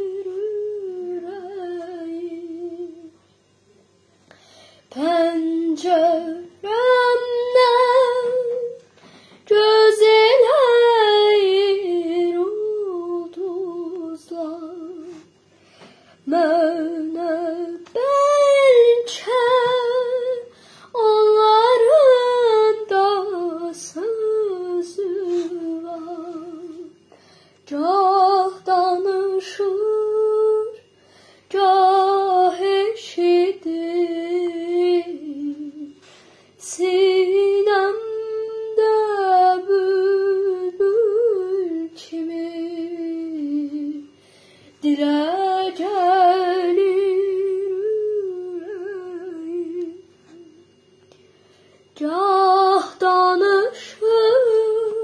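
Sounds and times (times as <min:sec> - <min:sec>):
girl singing unaccompanied: 0:00.0 - 0:03.2, 0:04.8 - 0:15.4, 0:16.2 - 0:44.2, 0:44.8 - 0:51.0, 0:51.9 - 0:55.0.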